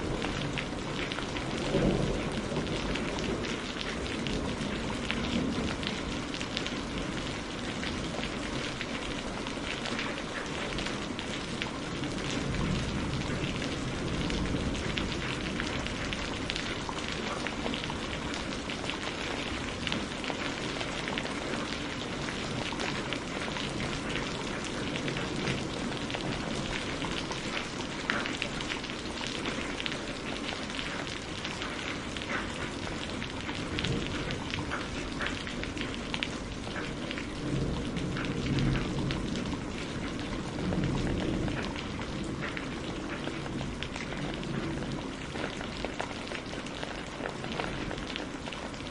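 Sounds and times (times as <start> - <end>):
raindrops pattering: 0.0 - 48.9
steady rain falling: 0.0 - 48.9.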